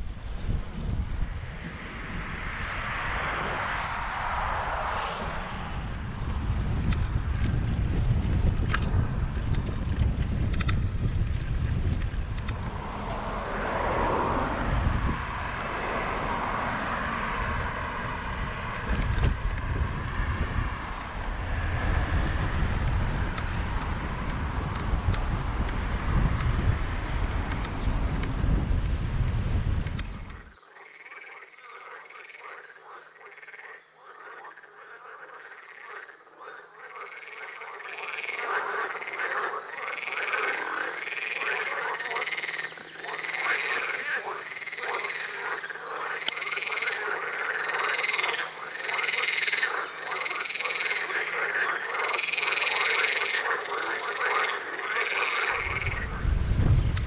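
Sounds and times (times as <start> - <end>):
wind rumbling on microphone: 0.0 - 57.0
frogs croaking: 2.0 - 7.6, 8.7 - 28.4, 30.0 - 57.0.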